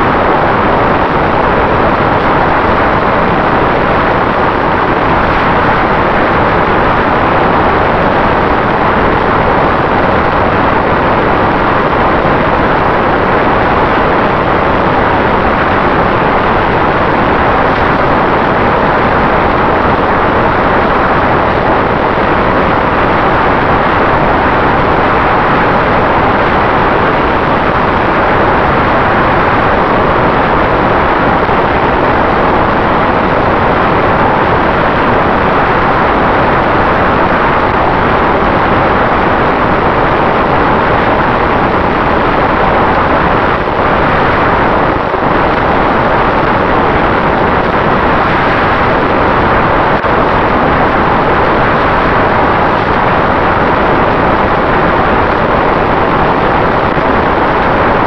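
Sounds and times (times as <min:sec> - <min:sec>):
airflow and propeller noise: 0:00.0 - 0:58.0
faint steady whine: 0:00.0 - 0:58.0.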